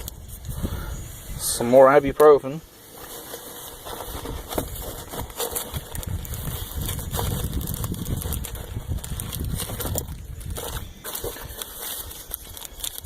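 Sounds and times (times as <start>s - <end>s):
packets and wrappers rustling: 1.6s - 13.0s.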